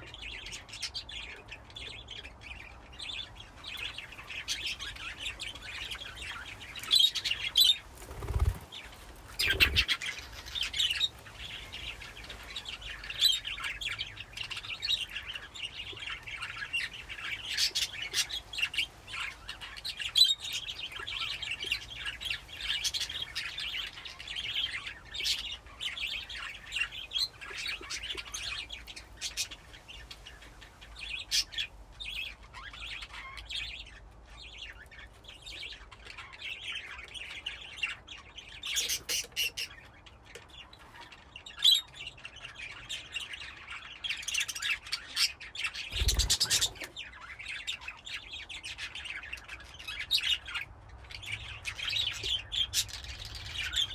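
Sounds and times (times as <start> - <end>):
budgerigars chirping: 0.0 - 29.6, 31.0 - 53.9.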